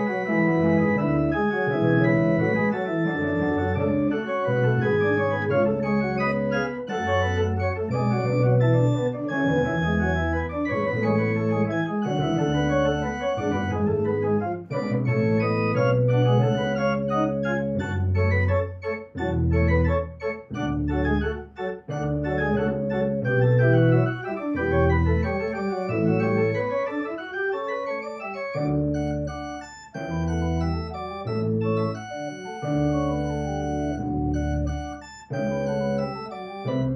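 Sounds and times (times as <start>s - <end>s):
pipe organ playing: 0.0s - 36.9s.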